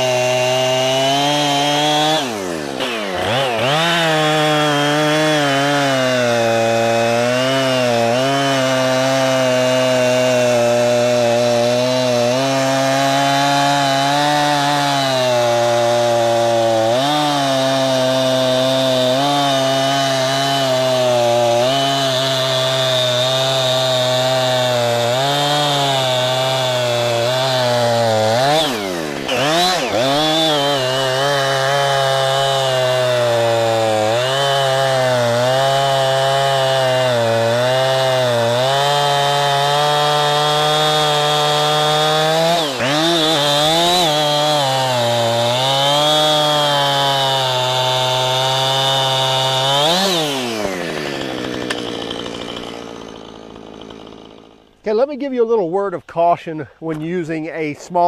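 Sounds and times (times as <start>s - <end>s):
chainsaw cutting log: 0.0s - 55.2s.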